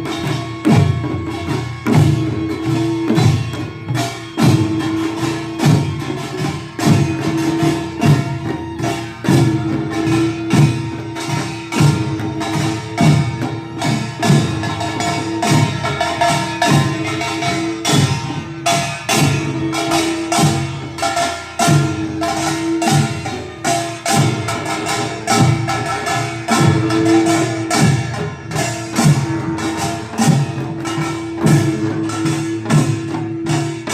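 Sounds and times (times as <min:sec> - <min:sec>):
heavy drum beats: 0:00.0 - 0:33.9.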